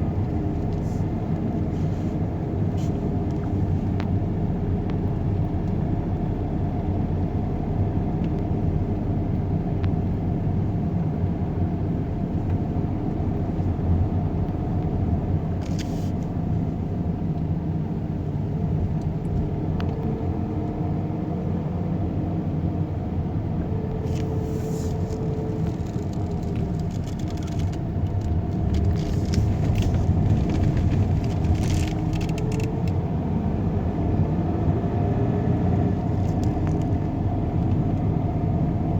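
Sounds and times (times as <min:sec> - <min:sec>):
low vehicle rumble: 0:00.0 - 0:38.9.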